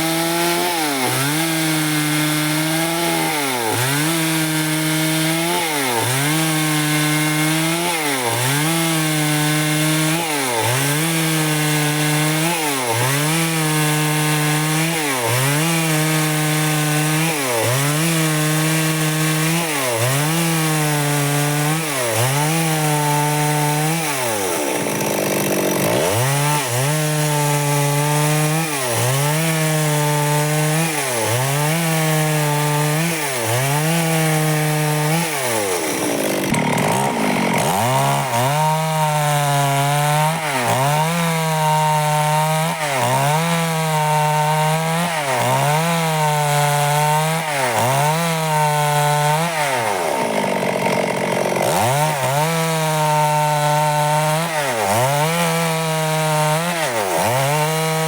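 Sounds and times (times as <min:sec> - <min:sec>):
chainsaw cutting boards: 0:00.0 - 0:58.0.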